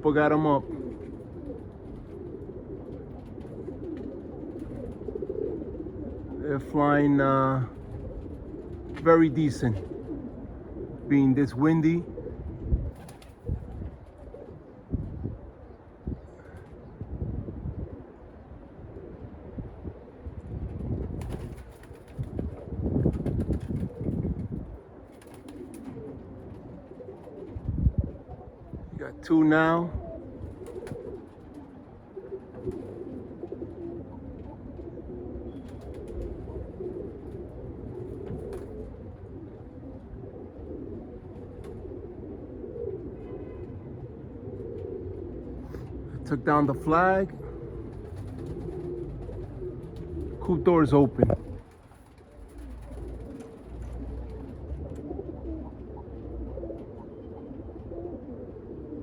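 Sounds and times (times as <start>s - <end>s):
pigeons cooing: 0.0s - 59.0s
wind rumble on microphone: 0.6s - 29.2s, 29.8s - 42.4s, 47.3s - 58.1s.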